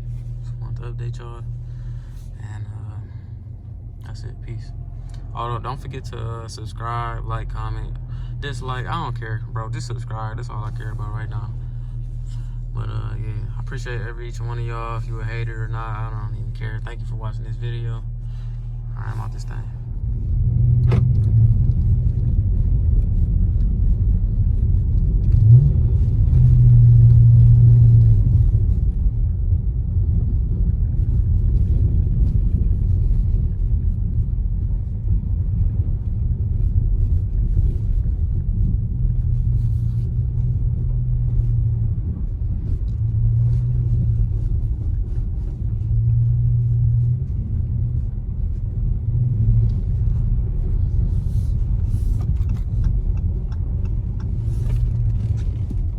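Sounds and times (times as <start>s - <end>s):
car engine drone: 0.0s - 55.9s
road noise: 0.0s - 55.9s.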